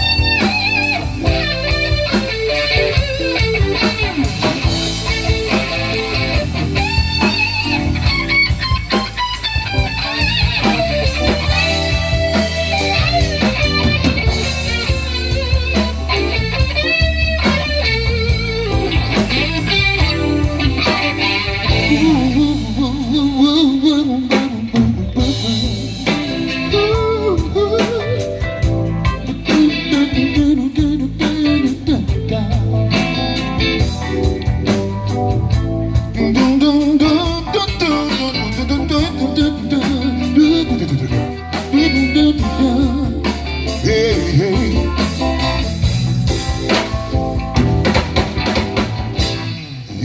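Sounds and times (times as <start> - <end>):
bending lead guitar line: 0.0 - 50.0
blues band playing: 0.0 - 50.0.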